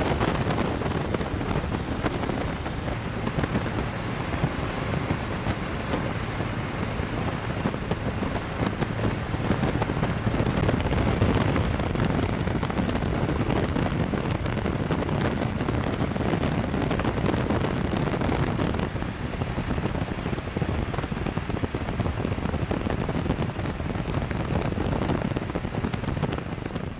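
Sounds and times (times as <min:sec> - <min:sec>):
heavy rain: 0:00.0 - 0:26.9
strong wind: 0:00.0 - 0:26.9.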